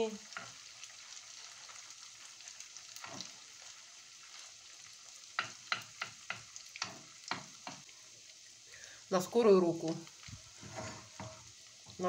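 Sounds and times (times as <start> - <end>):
pancakes sizzling in oil: 0.0 - 12.0.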